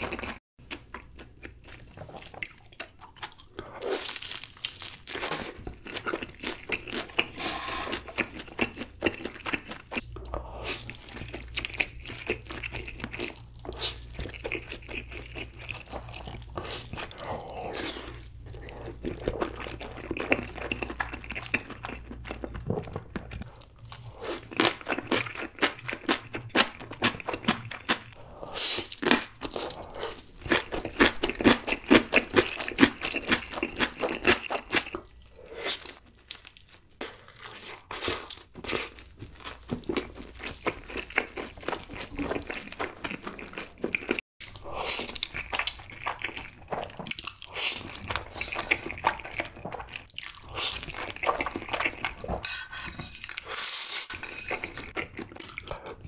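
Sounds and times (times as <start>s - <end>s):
crunching and chewing food: 0.0s - 56.0s.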